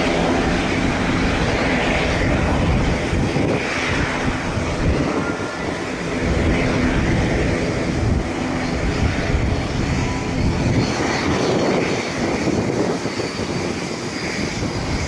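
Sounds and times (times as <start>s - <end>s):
aircraft engines running: 0.0s - 15.0s
wind buffeting microphone: 0.0s - 15.0s.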